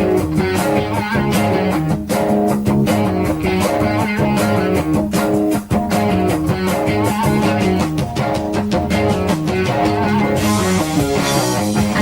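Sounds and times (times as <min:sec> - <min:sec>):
bass guitar: 0:00.0 - 0:12.0
drum kit beat: 0:00.0 - 0:12.0
electric guitar: 0:00.0 - 0:12.0.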